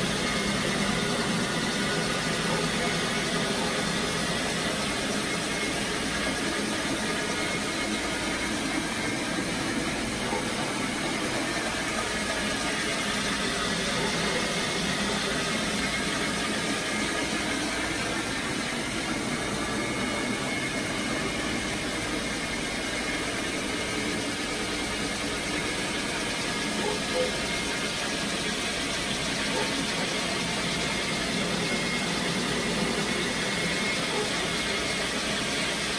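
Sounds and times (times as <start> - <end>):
carpet extraction machine humming: 0.0 - 35.9.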